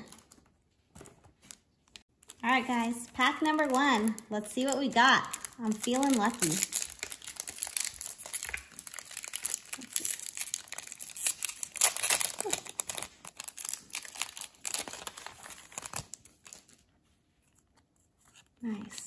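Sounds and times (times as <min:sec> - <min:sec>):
foil wrapper crinkling and tearing: 0:00.0 - 0:16.9.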